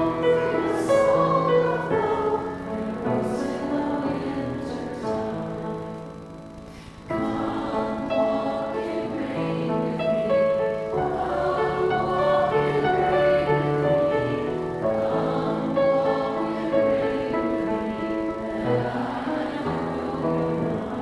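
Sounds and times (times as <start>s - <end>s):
congregation singing a hymn: 0.0s - 21.0s
piano accompaniment: 0.0s - 21.0s.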